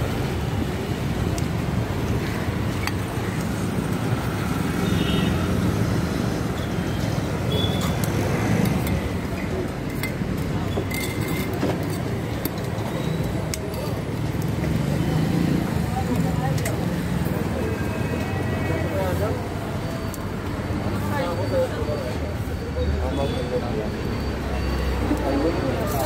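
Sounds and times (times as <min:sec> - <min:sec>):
roadside traffic noise: 0:00.0 - 0:26.0.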